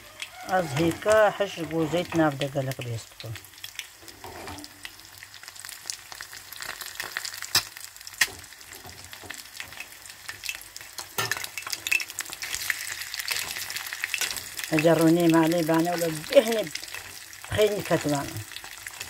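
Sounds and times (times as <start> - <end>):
eggs sizzling in pan: 0.0 - 19.0.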